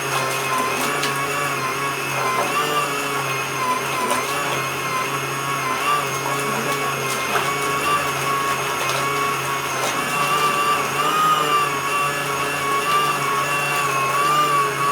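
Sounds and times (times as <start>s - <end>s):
washing machine motor whining: 0.0s - 14.9s.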